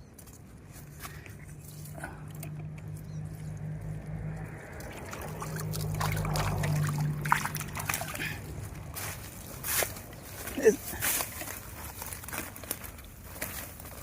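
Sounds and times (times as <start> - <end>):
low steady hum: 0.0 - 14.0
water sloshing and trickling: 0.1 - 14.0.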